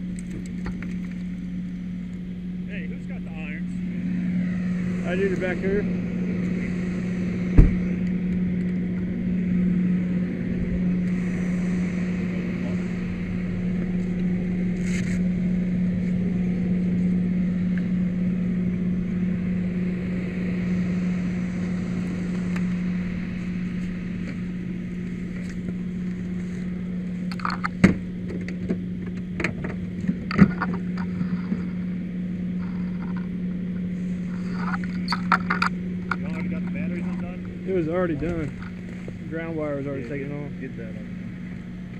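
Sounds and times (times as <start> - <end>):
vehicle engine idling: 0.0 - 41.9.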